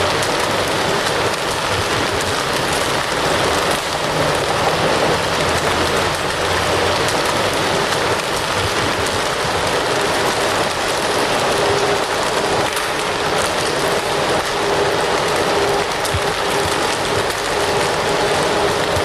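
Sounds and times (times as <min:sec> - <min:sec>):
fire crackling: 0:00.0 - 0:19.0.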